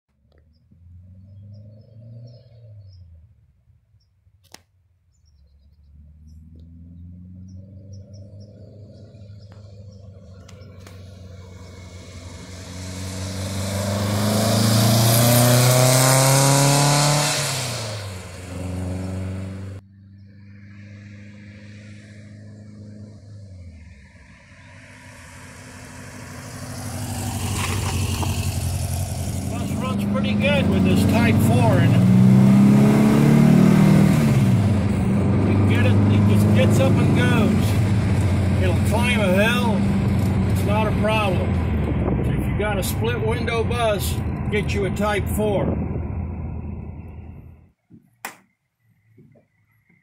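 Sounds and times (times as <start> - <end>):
vehicle engine driving past: 0.5 - 3.4, 5.3 - 47.7.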